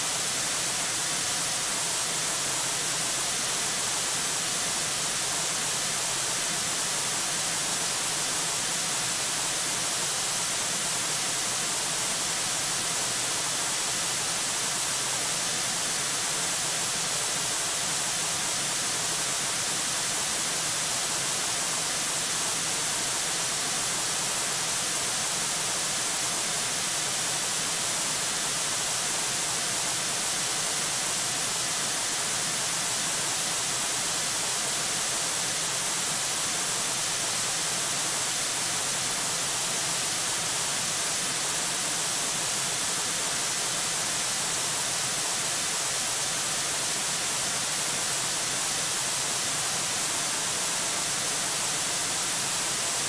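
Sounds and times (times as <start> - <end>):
static hiss: 0.0 - 53.0.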